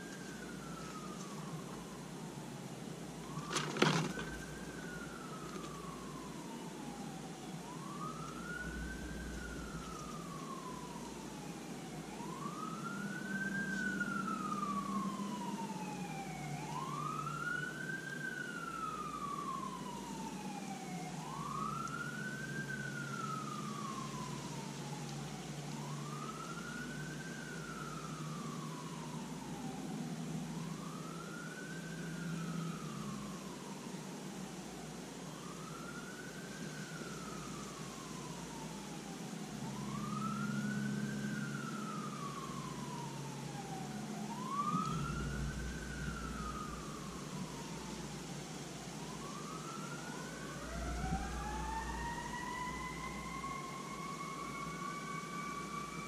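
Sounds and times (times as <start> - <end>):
distant siren wailing: 0.0 - 56.0
higher second siren: 0.0 - 56.0.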